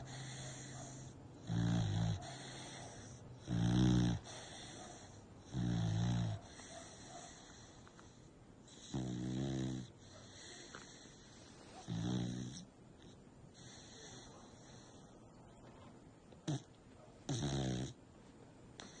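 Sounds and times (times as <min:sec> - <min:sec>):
dog snoring: 0:00.0 - 0:15.1, 0:16.4 - 0:16.7, 0:17.3 - 0:18.0, 0:18.8 - 0:19.0.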